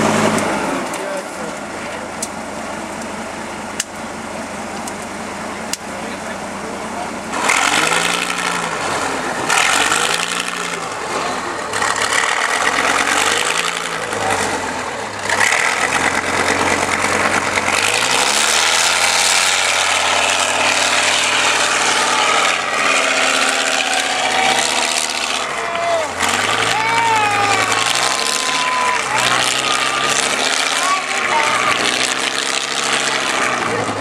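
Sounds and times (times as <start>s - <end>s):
diesel engine revving hard: 0.0s - 4.0s, 5.2s - 34.0s.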